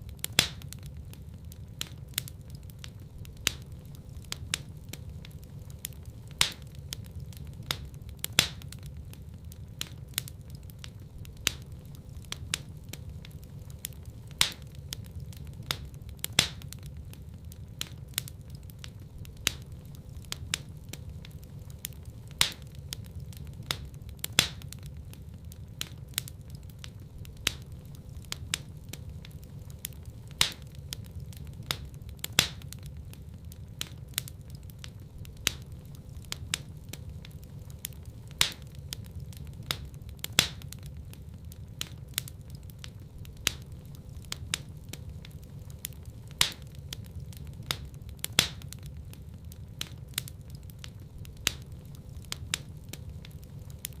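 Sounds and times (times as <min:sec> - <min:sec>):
sharp pops of burning wood: 0:00.0 - 0:54.0
wood fire crackling: 0:00.0 - 0:54.0.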